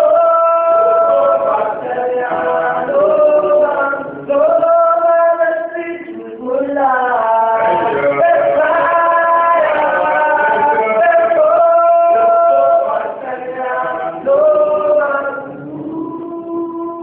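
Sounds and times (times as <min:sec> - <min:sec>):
male voices singing unaccompanied: 0:00.0 - 0:17.0.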